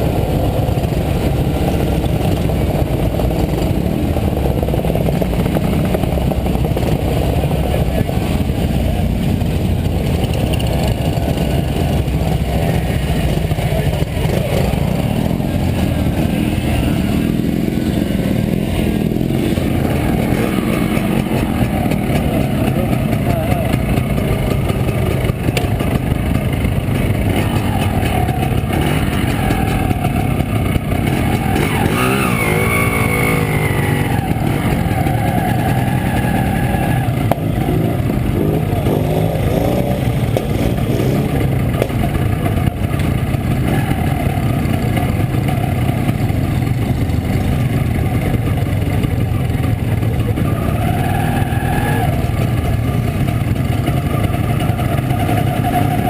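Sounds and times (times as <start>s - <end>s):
two-stroke engine running: 0.0s - 56.0s.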